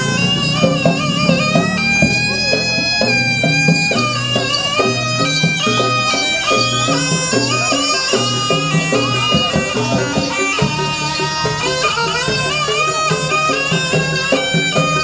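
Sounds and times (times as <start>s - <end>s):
drum strokes: 0.0s - 15.0s
shrill reed shawm melody: 0.0s - 15.0s.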